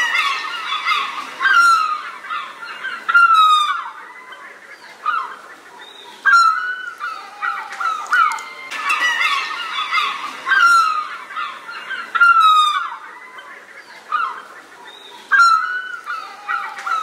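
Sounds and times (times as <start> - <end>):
birds honking: 0.0 - 17.0.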